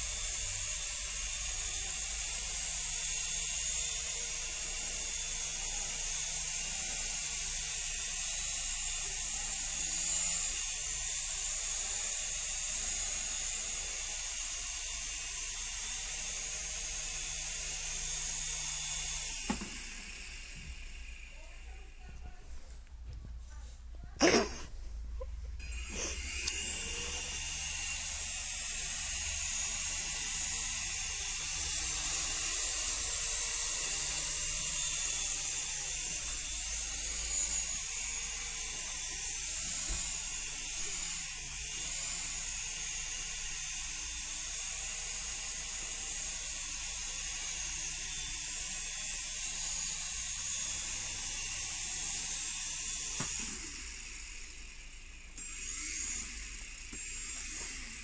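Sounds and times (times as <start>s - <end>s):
helicopter running: 0.0s - 22.4s, 25.6s - 58.0s.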